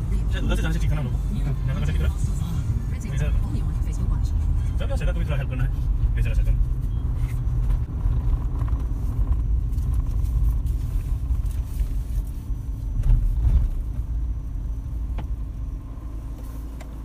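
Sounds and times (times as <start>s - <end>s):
car engine from inside cabin: 0.0s - 17.0s
road rumble: 0.0s - 17.0s.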